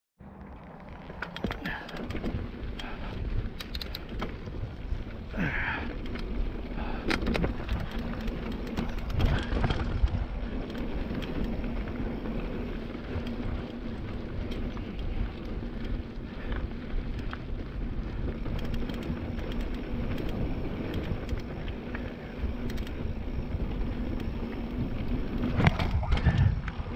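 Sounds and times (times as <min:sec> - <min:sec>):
bike rattling: 0:00.2 - 0:26.9
tyres over dirt and rock: 0:00.2 - 0:26.9.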